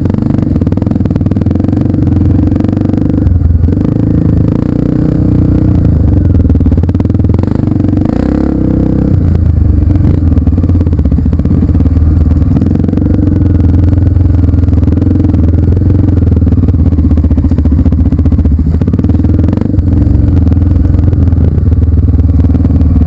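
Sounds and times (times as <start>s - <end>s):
motorcycle engine running loud: 0.0s - 23.0s.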